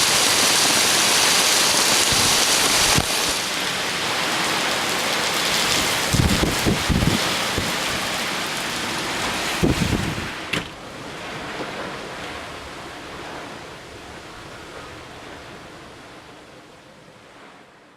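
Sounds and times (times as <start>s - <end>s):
rain and wind rushing: 0.0s - 17.9s
wind rumbling on microphone: 0.0s - 17.9s.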